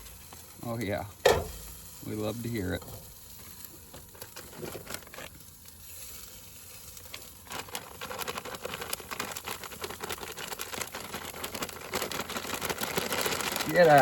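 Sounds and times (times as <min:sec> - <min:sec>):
sausages sizzling in a pan: 0:00.0 - 0:14.0.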